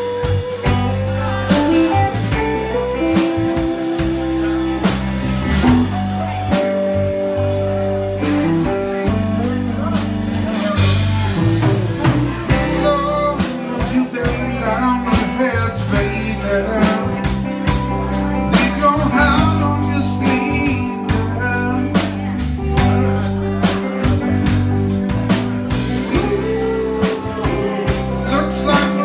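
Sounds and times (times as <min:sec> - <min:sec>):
drum kit beat: 0:00.0 - 0:29.0
live band playing: 0:00.0 - 0:29.0.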